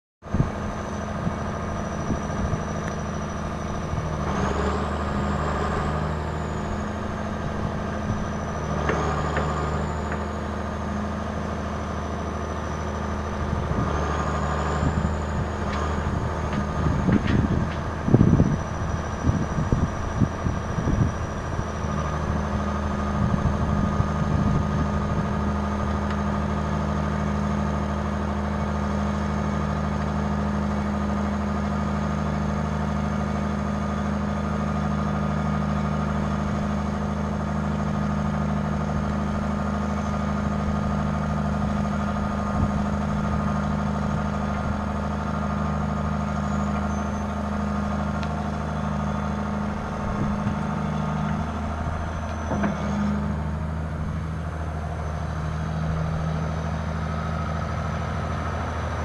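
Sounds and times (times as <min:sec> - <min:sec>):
diesel engine idling: 0:00.2 - 0:59.0
low bumps: 0:00.3 - 0:26.9, 0:35.9 - 0:59.0.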